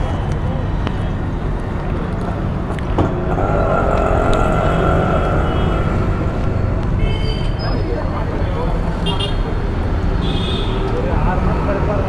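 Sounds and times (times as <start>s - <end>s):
passing motor vehicle engine: 0.0s - 10.2s
road traffic rumble: 0.0s - 12.0s.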